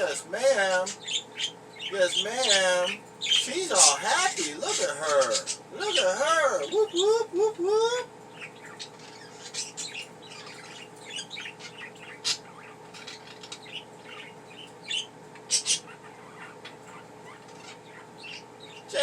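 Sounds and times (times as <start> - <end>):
budgerigars chirping: 0.0 - 7.2, 8.3 - 19.0
faint steady hum: 0.0 - 19.0.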